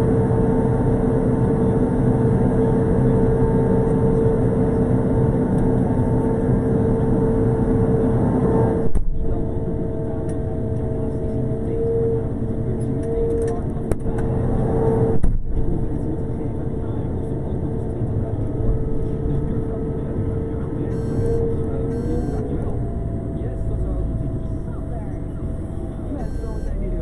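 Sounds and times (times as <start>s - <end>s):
constant whine: 0.0s - 27.0s.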